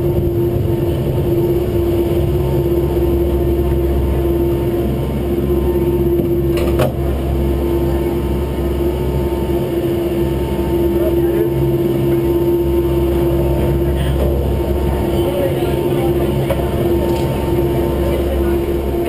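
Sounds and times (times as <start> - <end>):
lift machinery rumbling and humming: 0.0 - 19.0.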